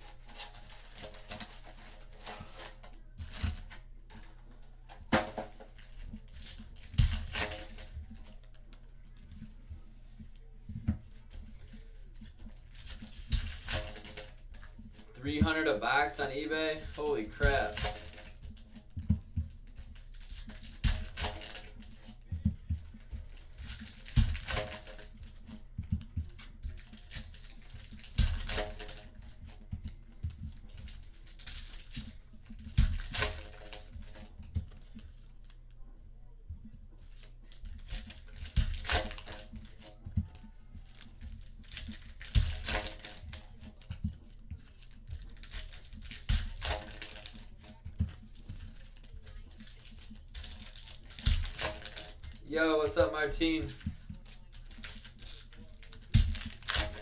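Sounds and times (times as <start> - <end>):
card packs tearing open: 0.0 - 4.3, 5.1 - 8.5, 11.5 - 18.9, 19.6 - 22.2, 23.2 - 25.5, 26.3 - 29.6, 30.4 - 34.4, 37.1 - 57.0
wrappers crinkling: 0.0 - 35.7, 37.0 - 57.0
cards being handled: 0.0 - 35.8, 36.6 - 57.0.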